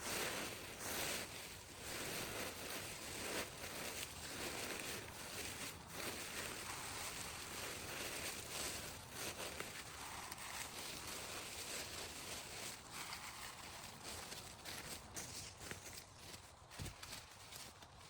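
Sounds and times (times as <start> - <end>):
rustles: 0.0 - 18.0.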